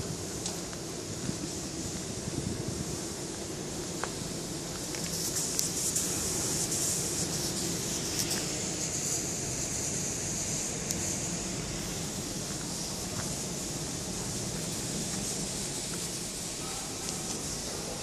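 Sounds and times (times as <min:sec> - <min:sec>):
high even hiss: 0:00.0 - 0:18.0.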